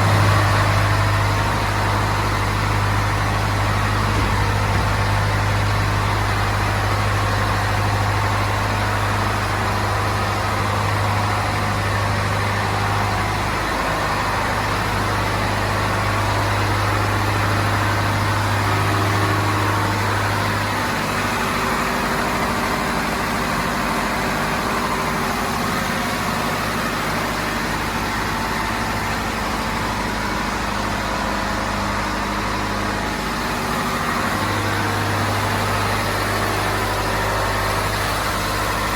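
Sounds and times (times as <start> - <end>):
marine diesel engine running: 0.0 - 38.9.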